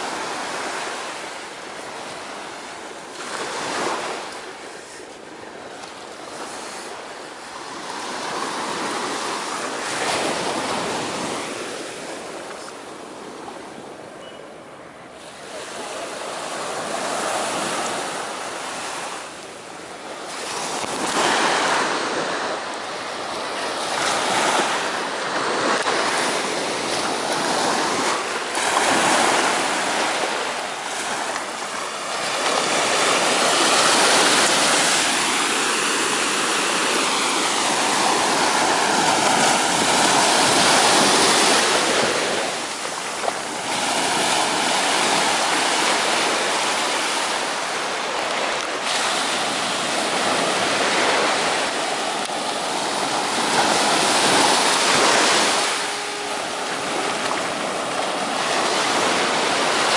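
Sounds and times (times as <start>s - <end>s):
waves breaking on sandy beach: 0.0s - 59.9s.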